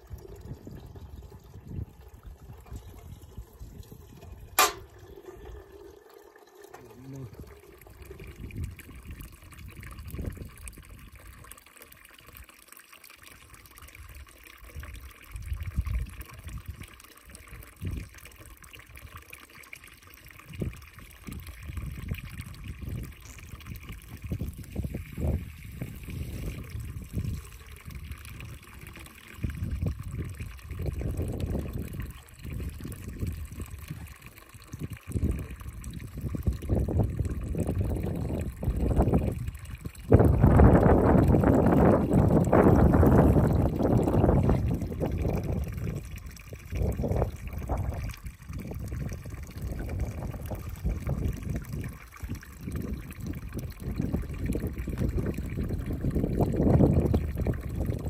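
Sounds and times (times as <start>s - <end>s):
water trickling from fountain: 0.0s - 58.0s.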